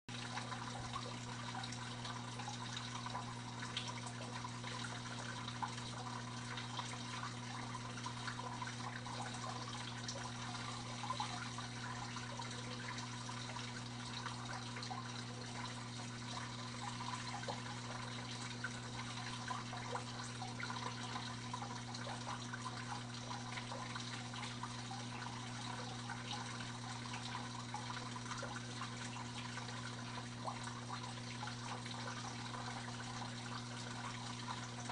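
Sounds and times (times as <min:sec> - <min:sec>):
aquarium water trickling and bubbling: 0:00.1 - 0:34.9
small crackles and drips: 0:00.1 - 0:34.9
steady low hum: 0:00.1 - 0:34.9.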